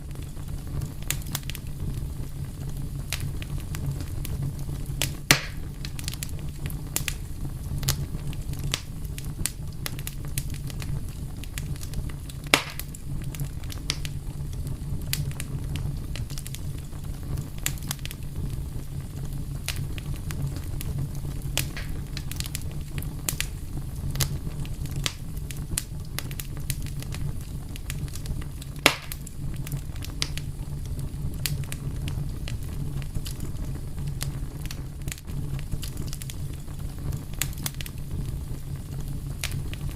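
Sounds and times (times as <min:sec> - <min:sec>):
fire crackling: 0:00.0 - 0:39.9
loud fire pops: 0:00.0 - 0:39.9
low rumble of flames: 0:00.0 - 0:39.9.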